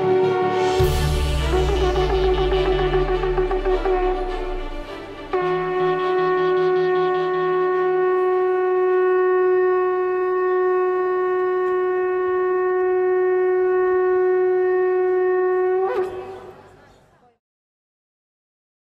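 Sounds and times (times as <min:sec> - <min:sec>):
shofar blast: 0:00.0 - 0:16.7.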